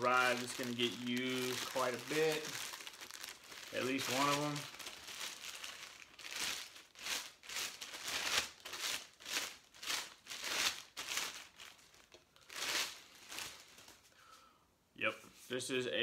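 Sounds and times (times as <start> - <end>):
plastic wrapping crinkling: 0.0 - 14.2.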